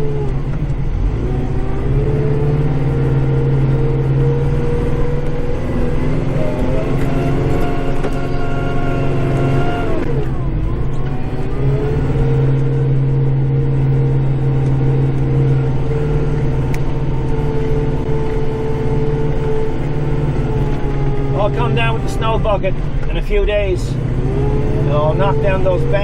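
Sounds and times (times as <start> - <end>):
tractor diesel engine at high revs: 0.0 - 26.0.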